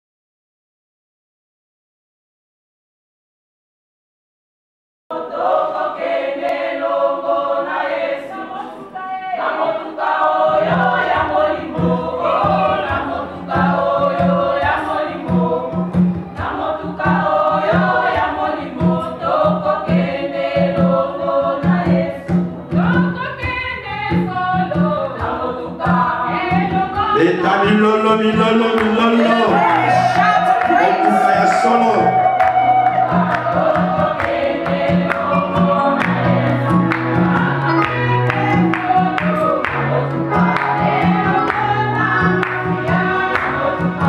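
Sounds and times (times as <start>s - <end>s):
choir singing gospel: 5.1s - 44.0s.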